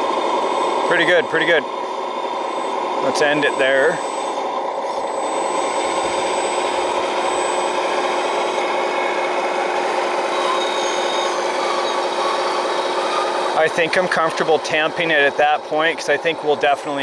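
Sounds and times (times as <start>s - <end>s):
small motor and hydraulic pump grinding: 0.0s - 17.0s.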